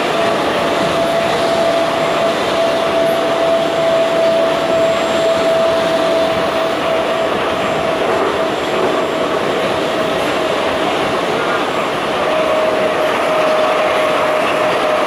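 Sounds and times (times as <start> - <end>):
steady whining tone: 0.0 - 15.0
train rail running noise: 0.0 - 15.0.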